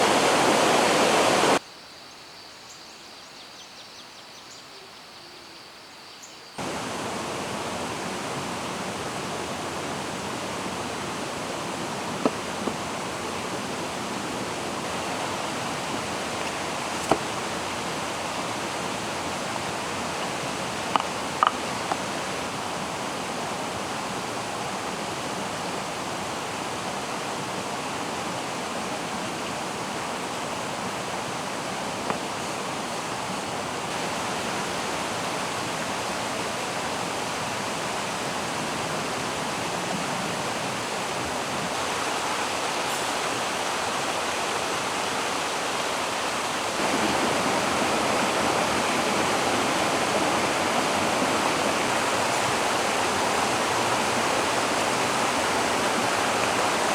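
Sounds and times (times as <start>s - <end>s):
stream rushing over rocks: 0.0s - 1.6s, 6.6s - 56.9s.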